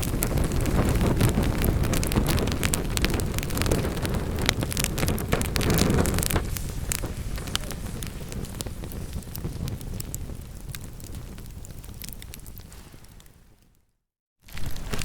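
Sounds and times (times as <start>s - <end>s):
flames rushing: 0.0s - 13.6s
burning wood crackling and popping: 0.0s - 13.8s, 14.4s - 15.0s.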